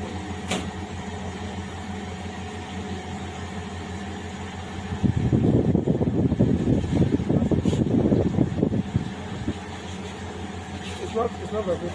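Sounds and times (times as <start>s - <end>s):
washing machine spinning hum: 0.0s - 11.9s.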